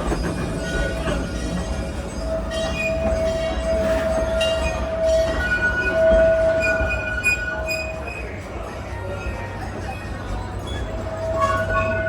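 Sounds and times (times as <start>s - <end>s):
train rumbling: 0.0s - 12.0s
train wheels squealing: 0.0s - 12.0s.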